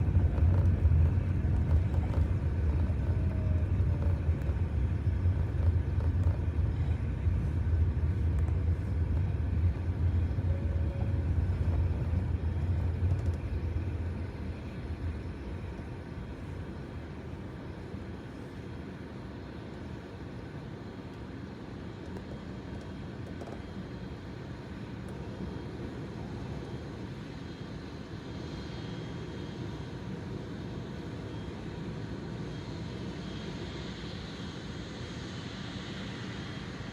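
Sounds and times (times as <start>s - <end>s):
jet engines rumbling: 0.0s - 36.9s.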